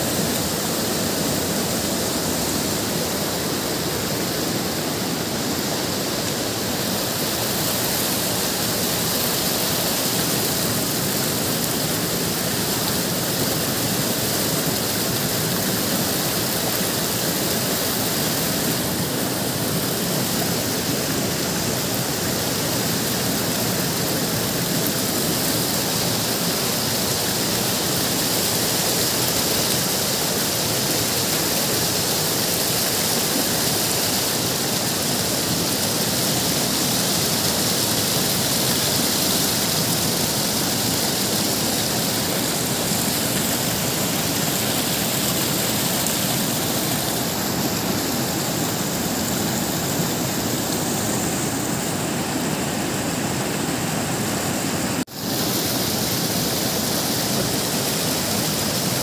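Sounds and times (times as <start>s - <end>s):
river water rushing over boulders: 0.0s - 59.0s.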